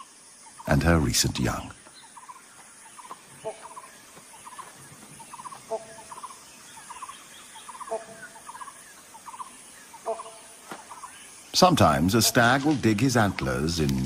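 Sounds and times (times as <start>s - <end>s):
bird calling with rattling notes: 0.0s - 14.0s.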